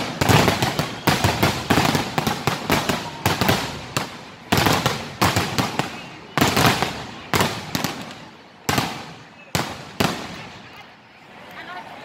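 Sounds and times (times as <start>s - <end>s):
fireworks bangs: 0.0s - 10.8s.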